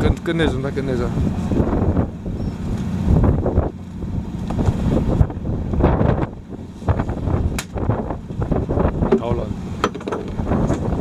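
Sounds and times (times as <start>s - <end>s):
boat engine humming: 0.0s - 11.0s
wind gusting on microphone: 0.0s - 11.0s.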